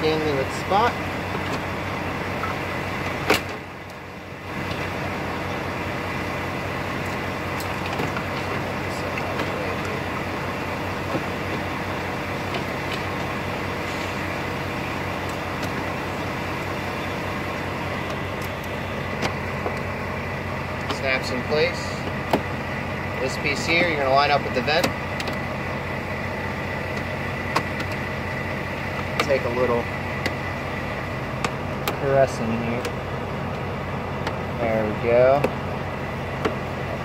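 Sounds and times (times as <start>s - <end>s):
truck engine humming: 0.0s - 37.0s.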